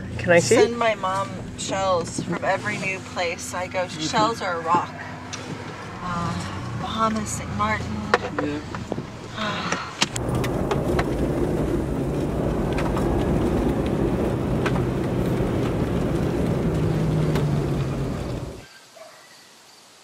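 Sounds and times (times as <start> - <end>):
engine hum: 0.0 - 18.6.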